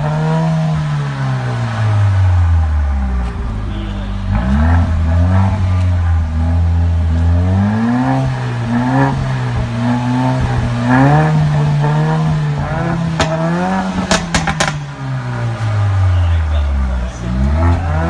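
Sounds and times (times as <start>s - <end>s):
car engine revving: 0.0s - 18.0s
exhaust cracks and crackles: 0.8s - 18.0s.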